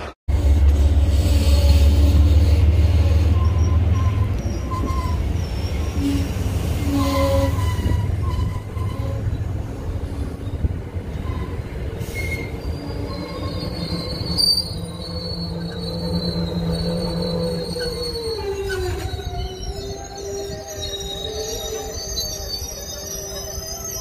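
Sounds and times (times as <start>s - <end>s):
train wheels rumbling on rail: 0.0s - 24.0s
wheel squeal: 1.3s - 9.5s, 10.1s - 24.0s.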